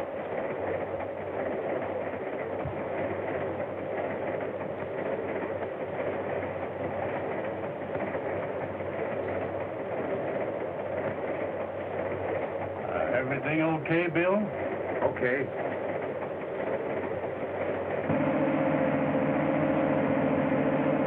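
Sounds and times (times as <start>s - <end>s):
passenger train running noise: 0.0s - 21.0s.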